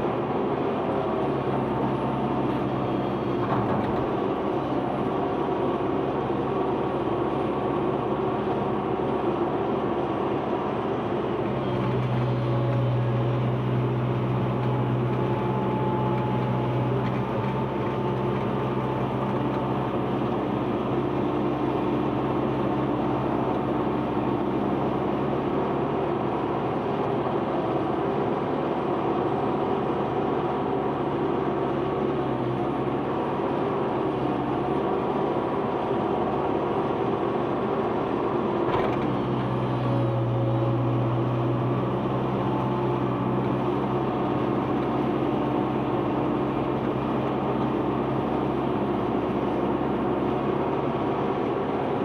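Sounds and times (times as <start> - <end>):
heavy machine engine droning: 0.0 - 52.0.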